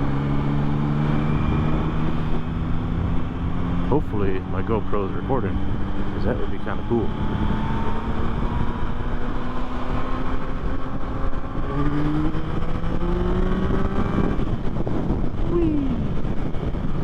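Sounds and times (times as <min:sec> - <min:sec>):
motorcycle engine cruising: 0:00.0 - 0:17.0
wind rumble on microphone: 0:00.0 - 0:17.0.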